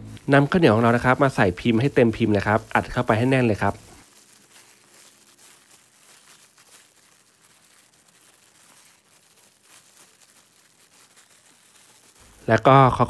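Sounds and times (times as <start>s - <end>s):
faint plastic bag crinkling: 0.0s - 13.0s.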